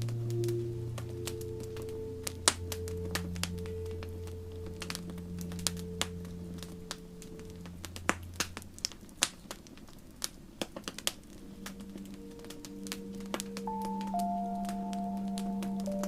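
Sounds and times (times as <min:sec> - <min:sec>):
soft low music tones: 0:00.0 - 0:16.0
wood fire crackling: 0:00.0 - 0:16.0.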